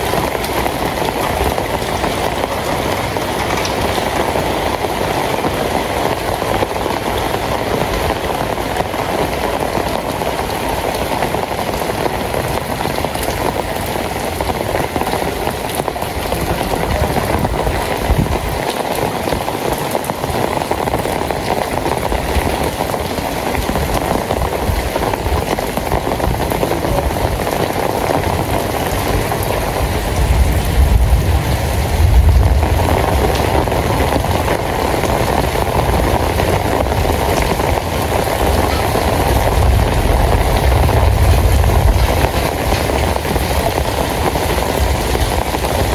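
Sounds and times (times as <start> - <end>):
rain falling on a street: 0.0 - 45.9.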